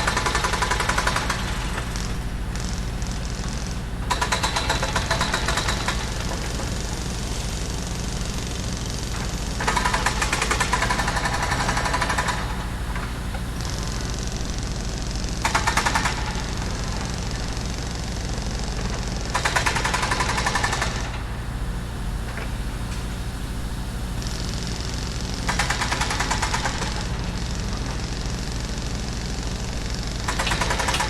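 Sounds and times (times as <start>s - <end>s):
jackhammer hammering: 0.0s - 14.6s, 15.3s - 21.2s, 25.4s - 31.0s
engine running steadily: 0.0s - 31.0s.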